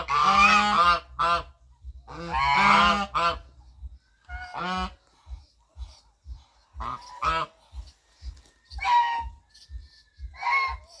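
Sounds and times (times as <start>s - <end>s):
goose honking: 0.0s - 5.2s, 5.8s - 8.0s, 8.8s - 9.6s, 10.3s - 11.0s.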